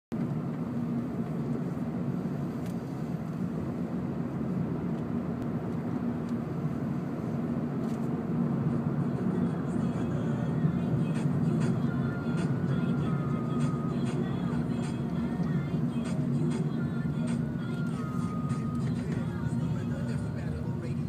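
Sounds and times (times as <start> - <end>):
car engine hum: 0.1 - 21.0
road rumble: 0.1 - 21.0.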